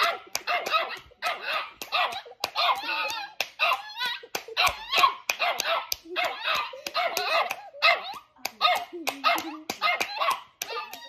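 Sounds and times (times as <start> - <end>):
hand clapping: 0.0 - 11.0
small dog barking: 0.0 - 11.0.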